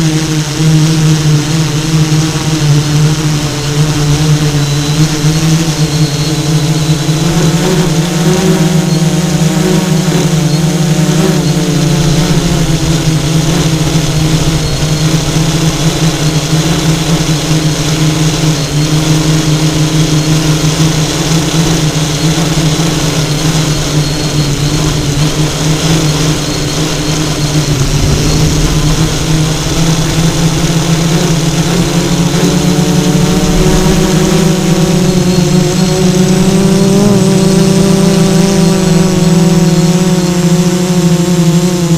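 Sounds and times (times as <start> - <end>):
drone propellers droning: 0.0 - 41.9.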